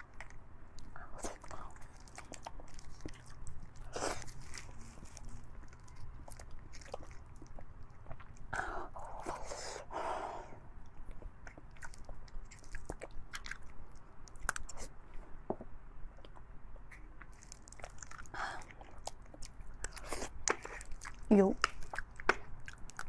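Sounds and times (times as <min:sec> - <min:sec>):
chewing bone marrow: 0:00.0 - 0:09.9, 0:10.7 - 0:15.0, 0:16.2 - 0:23.0.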